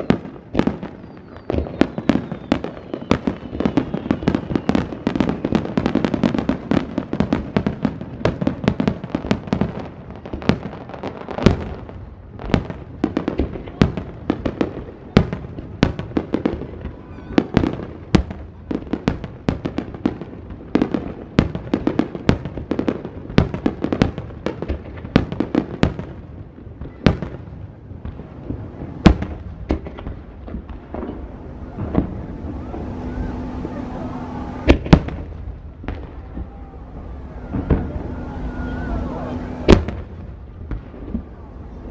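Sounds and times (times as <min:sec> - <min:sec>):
fireworks bangs: 0:00.0 - 0:41.9.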